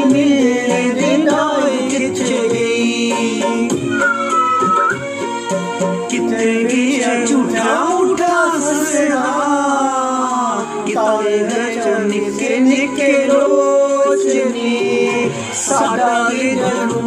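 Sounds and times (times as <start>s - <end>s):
man singing into microphone: 0.0s - 4.4s, 6.1s - 17.0s
backing music track: 0.0s - 17.0s.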